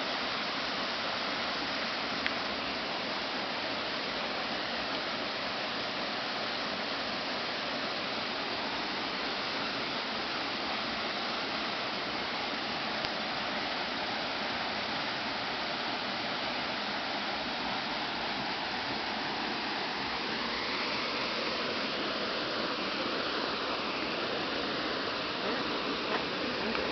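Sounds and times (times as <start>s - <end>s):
river rushing over rocks: 0.0s - 26.9s.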